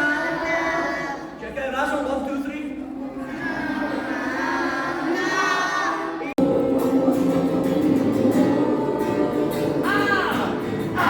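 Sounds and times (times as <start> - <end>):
group singing in chorus: 0.0 - 1.4, 2.8 - 11.0
voices singing a song: 0.0 - 11.0.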